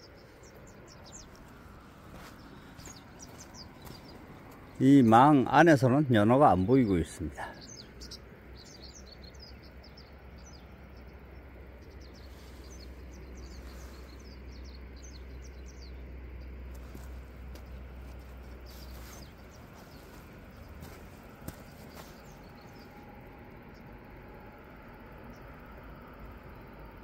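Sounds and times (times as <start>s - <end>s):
small birds chirping: 0.0s - 24.4s
steady outdoor wash: 0.0s - 27.0s.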